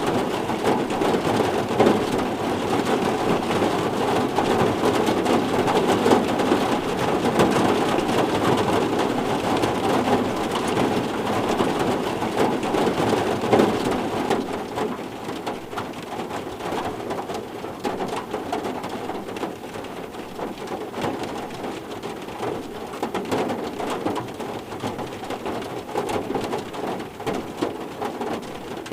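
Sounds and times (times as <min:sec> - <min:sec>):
rain pattering on a surface: 0:00.0 - 0:28.9.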